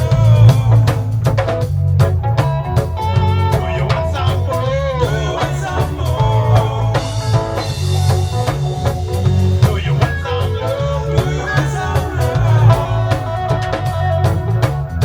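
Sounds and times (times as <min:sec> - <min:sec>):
heavy bass line: 0:00.0 - 0:15.0
reggae live band: 0:00.0 - 0:15.0.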